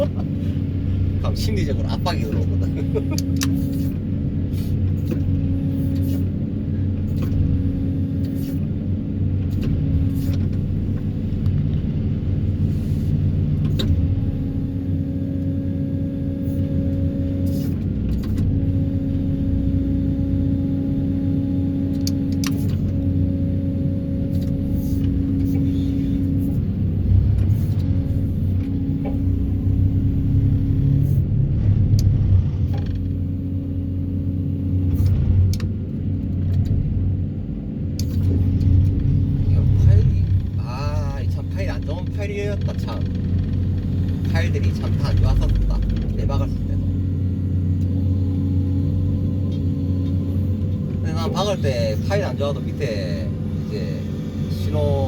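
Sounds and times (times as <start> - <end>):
engine rumbling: 0.0 - 55.0.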